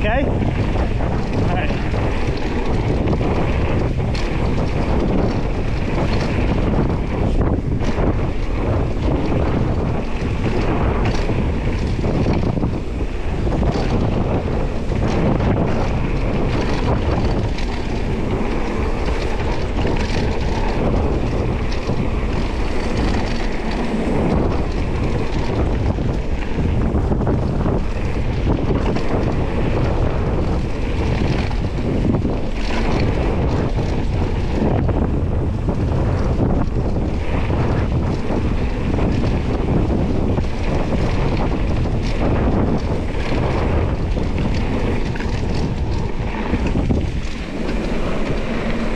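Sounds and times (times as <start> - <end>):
bike knocking and rattling: 0.0 - 48.9
bike tyres on dirt: 0.0 - 48.9
wind noise on microphone: 0.0 - 48.9.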